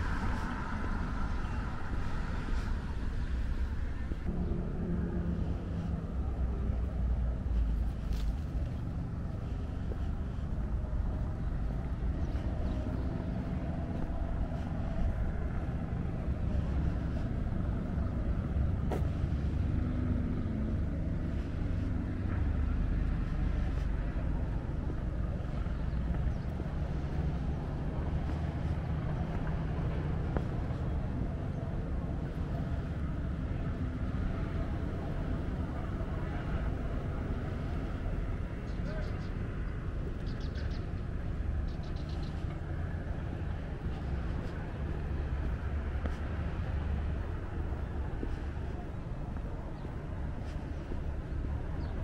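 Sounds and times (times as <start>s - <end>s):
street low rumble: 0.0s - 52.0s.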